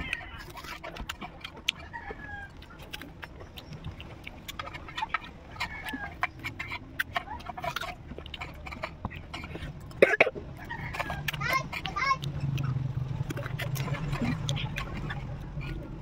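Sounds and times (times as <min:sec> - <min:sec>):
chickens clucking: 0:00.0 - 0:16.0
mouth chewing and smacking: 0:00.0 - 0:16.0.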